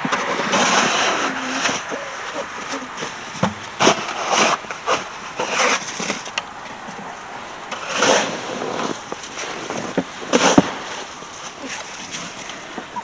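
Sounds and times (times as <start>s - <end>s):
shovels digging into packed snow: 0.1s - 3.2s, 3.8s - 6.3s, 7.7s - 12.7s.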